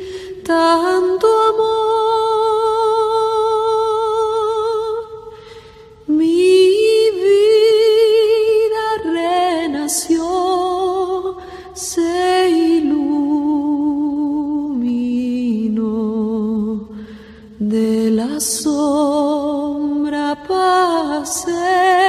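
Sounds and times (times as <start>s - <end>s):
woman singing with vibrato: 0.0s - 22.0s.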